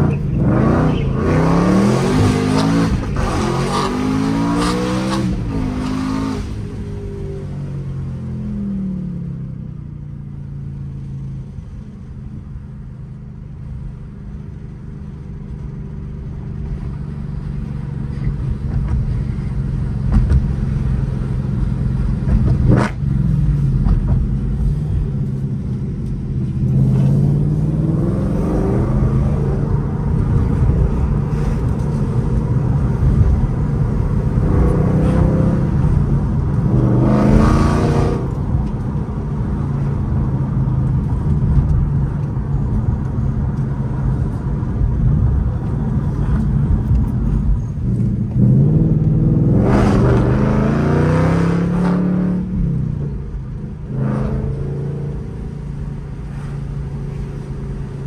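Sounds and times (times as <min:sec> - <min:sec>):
car engine revving with upshifts: 0:00.0 - 0:08.0, 0:18.1 - 0:58.0.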